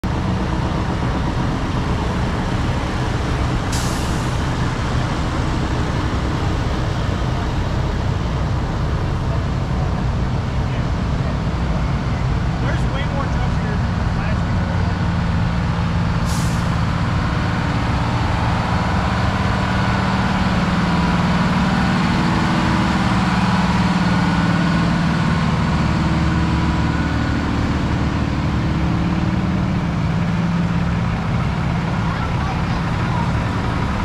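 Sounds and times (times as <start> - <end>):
heavy truck engines idling: 0.0 - 34.0.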